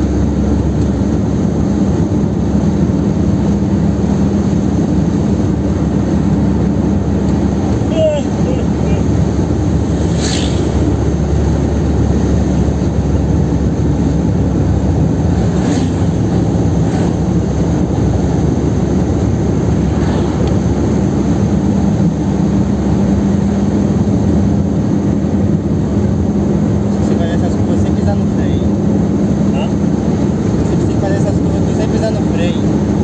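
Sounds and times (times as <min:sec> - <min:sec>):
car engine droning inside car: 0:00.0 - 0:33.0
road noise: 0:00.0 - 0:33.0
steady engine tone: 0:00.0 - 0:33.0.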